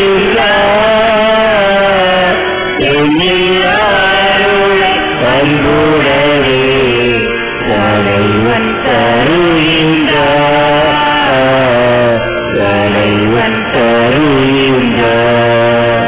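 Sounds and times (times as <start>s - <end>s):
low drone: 0.0s - 16.0s
person singing hymn: 0.0s - 16.0s.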